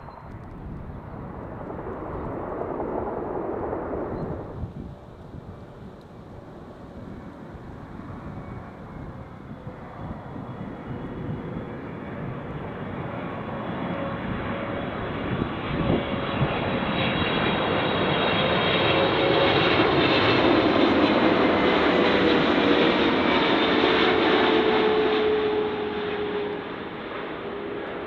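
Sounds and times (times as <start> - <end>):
airliner engine noise: 0.0 - 28.0.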